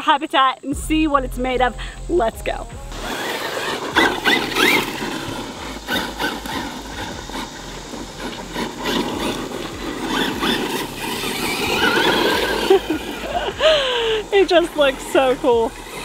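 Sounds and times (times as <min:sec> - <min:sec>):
electric motor whine: 0:02.8 - 0:16.0
tyres scrabbling on gravel: 0:03.0 - 0:16.0.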